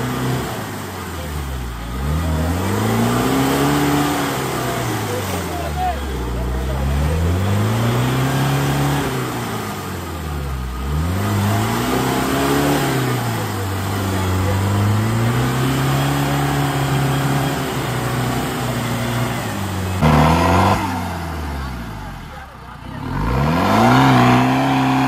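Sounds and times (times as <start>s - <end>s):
suv engine revving: 0.0s - 25.0s.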